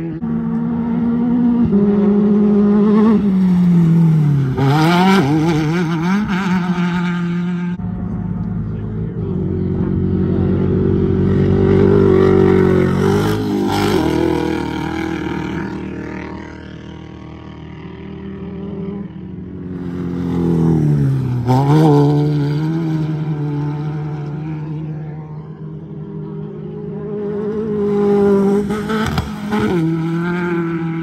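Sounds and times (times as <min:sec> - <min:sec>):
race car engines passing: 0:00.0 - 0:31.0.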